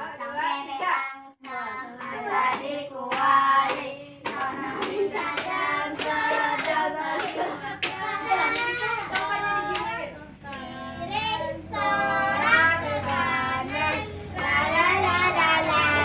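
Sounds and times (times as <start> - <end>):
group singing: 0.0 - 16.0
hands clapping: 1.4 - 10.6, 12.4 - 16.0.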